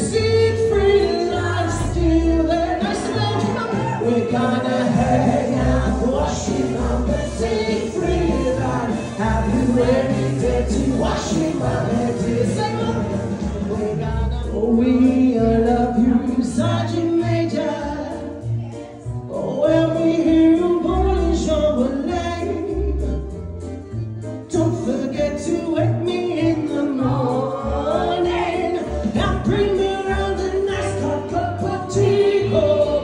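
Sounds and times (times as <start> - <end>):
person singing: 0.0 - 23.3, 24.5 - 33.0
bass line: 0.0 - 33.0.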